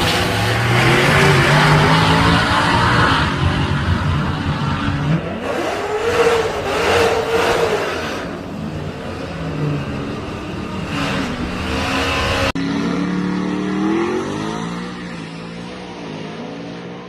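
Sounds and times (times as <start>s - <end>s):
truck engine accelerating: 0.0s - 17.0s.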